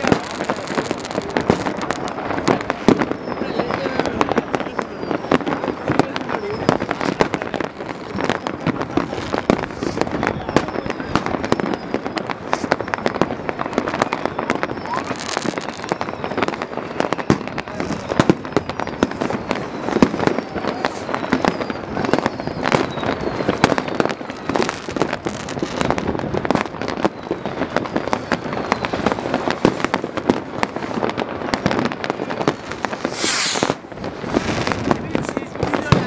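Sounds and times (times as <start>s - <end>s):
falling firework whistles: 0.0s - 36.0s
firework hiss: 0.0s - 36.0s
fireworks bangs and crackles: 0.0s - 36.0s.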